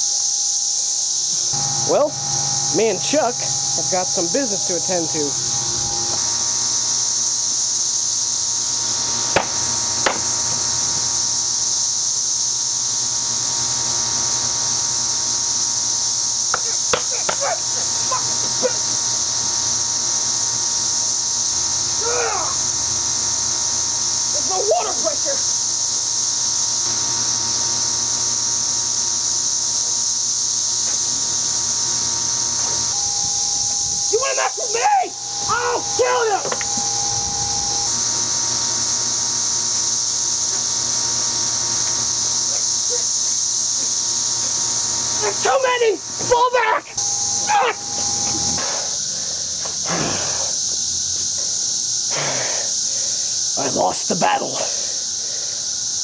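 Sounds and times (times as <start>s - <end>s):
cicadas singing: 0.0s - 56.0s.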